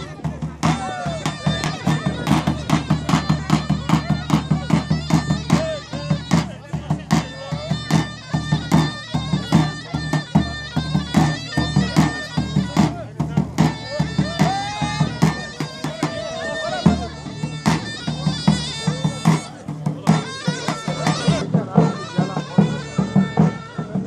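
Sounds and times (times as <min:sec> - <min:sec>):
fast steady drum beat: 0:00.0 - 0:24.0
shrill reed pipe melody: 0:00.0 - 0:24.0.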